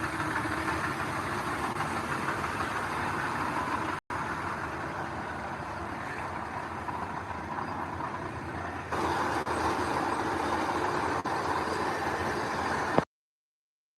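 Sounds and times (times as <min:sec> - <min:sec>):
heavy machinery engine rumble: 0:00.0 - 0:13.1.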